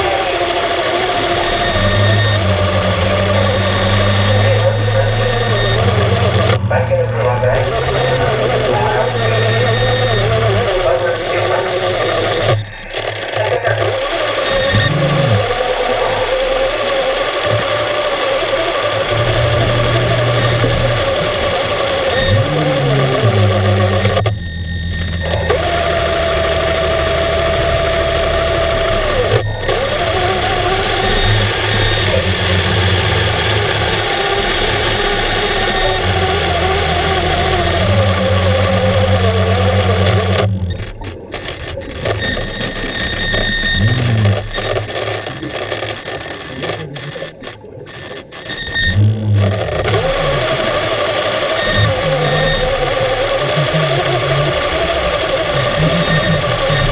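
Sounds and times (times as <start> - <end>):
electric motor whir underwater: 0.0 - 56.9.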